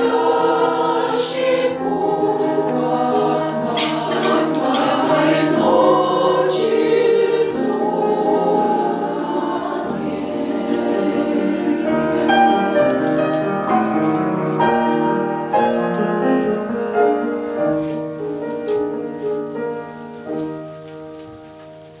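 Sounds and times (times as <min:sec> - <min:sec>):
piano notes and chords: 0:00.0 - 0:22.0.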